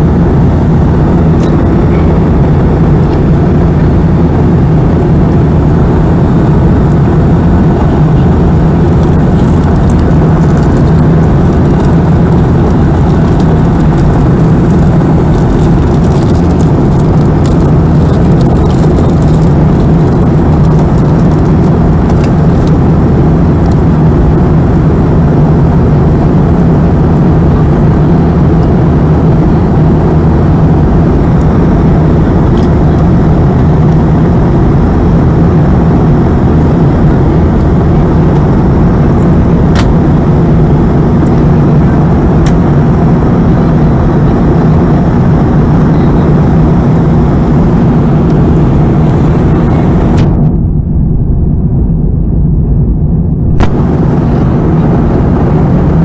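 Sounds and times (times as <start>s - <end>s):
aircraft cabin engine drone: 0.0s - 56.0s
low hum: 0.0s - 56.0s.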